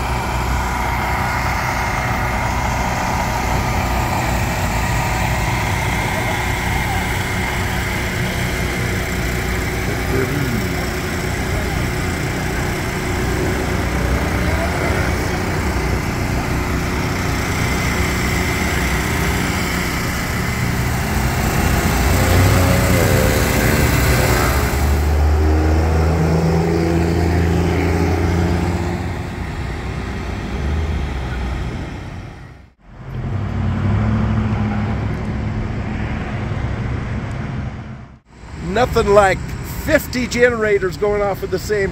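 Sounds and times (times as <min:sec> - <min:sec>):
generators droning: 0:00.0 - 0:41.9
street traffic noise: 0:00.0 - 0:41.9.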